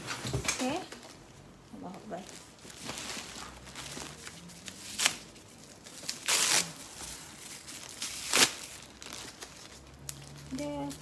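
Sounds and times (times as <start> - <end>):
plastic rustling: 0.0 - 11.0
plastic wrapping ripping: 2.2 - 11.0.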